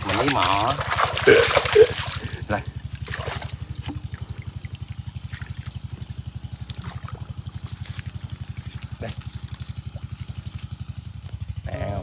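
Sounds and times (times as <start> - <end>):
water trickling: 0.0 - 10.6
small engine puttering: 0.0 - 12.0.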